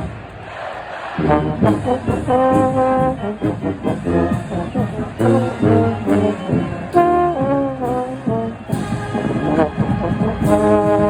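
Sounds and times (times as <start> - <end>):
brass chords: 0.0 - 11.0
marching band playing: 0.0 - 11.0.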